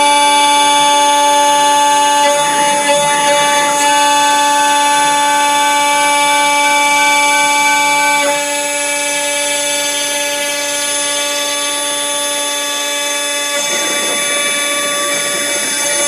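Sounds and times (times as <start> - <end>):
router bit cutting hardwood: 0.0 - 16.0
router spindle whine: 0.0 - 16.0.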